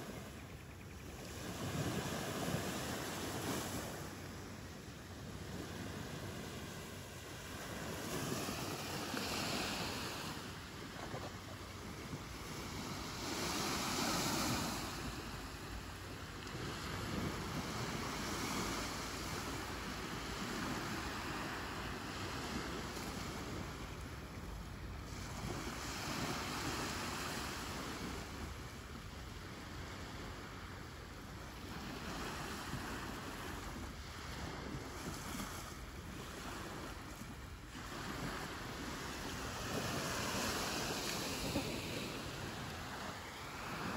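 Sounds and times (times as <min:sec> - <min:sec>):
wind rumbling on microphone: 0:00.0 - 0:43.9
waves washing onto sandy beach: 0:01.1 - 0:43.9.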